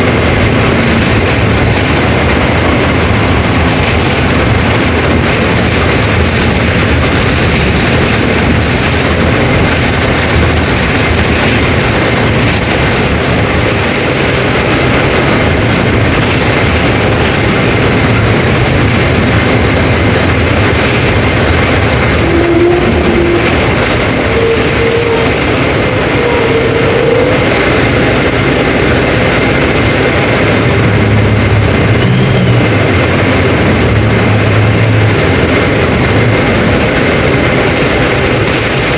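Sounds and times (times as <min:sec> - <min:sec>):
bus engine and drive noise: 0:00.0 - 0:38.9.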